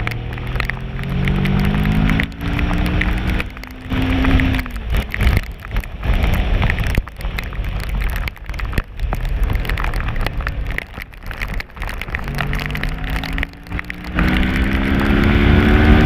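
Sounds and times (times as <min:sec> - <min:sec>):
raindrops tapping on camera: 0:00.0 - 0:16.0
wind and rain rush: 0:00.0 - 0:16.0.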